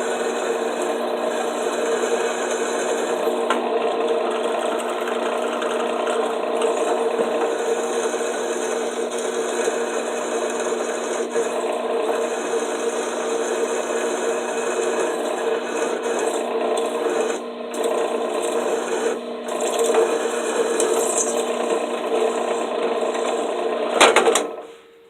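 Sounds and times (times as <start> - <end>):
drill bit scraping steel: 0.0 - 24.8
drill press motor whir: 0.0 - 25.0.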